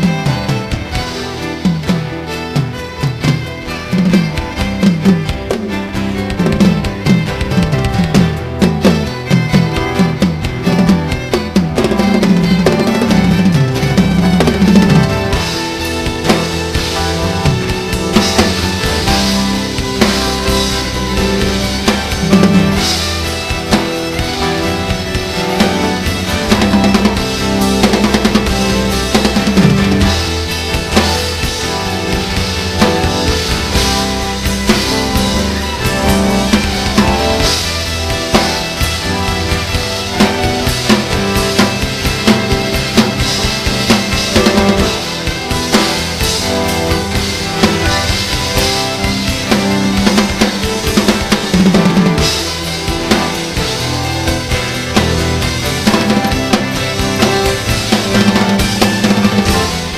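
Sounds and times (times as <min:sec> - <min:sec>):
acoustic guitar: 0:00.0 - 0:59.9
bass line: 0:00.0 - 0:59.9
drum kit beat: 0:00.0 - 0:59.9
violin: 0:00.0 - 0:59.9.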